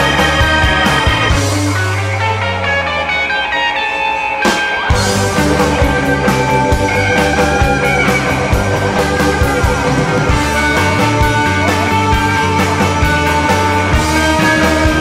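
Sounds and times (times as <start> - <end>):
steady drum beat: 0.0 - 2.3, 4.4 - 15.0
band music: 0.0 - 15.0
bass line: 0.0 - 15.0.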